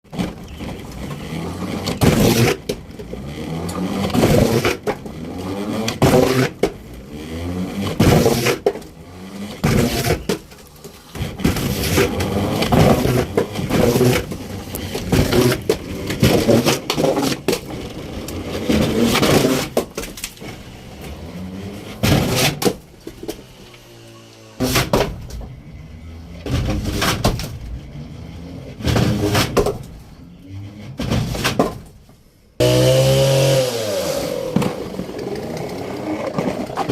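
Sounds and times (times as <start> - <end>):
logs sliding through a pipe: 0.1 - 32.0, 33.7 - 36.9.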